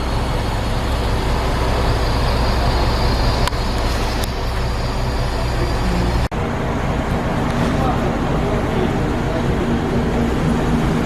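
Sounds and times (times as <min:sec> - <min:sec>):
crane engine humming: 0:00.0 - 0:11.0.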